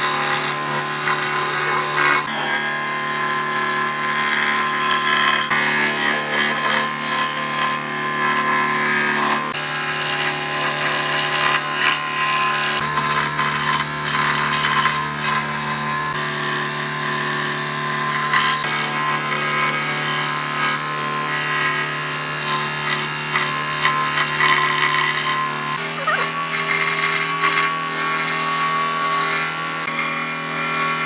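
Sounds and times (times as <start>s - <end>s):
saw blade rasping through wood: 0.0s - 31.0s
scroll saw motor hum: 0.0s - 31.0s.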